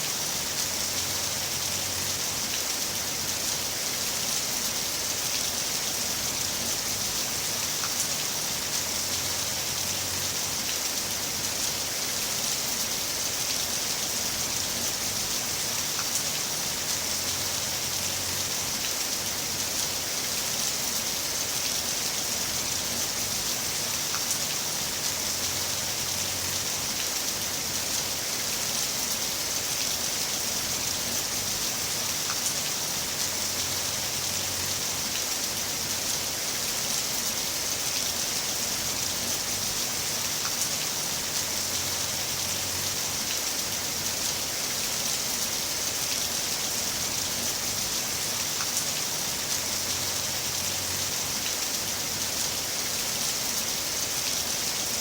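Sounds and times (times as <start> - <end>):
heavy rain falling: 0.0 - 55.0
raindrops ticking on surface: 0.1 - 55.0.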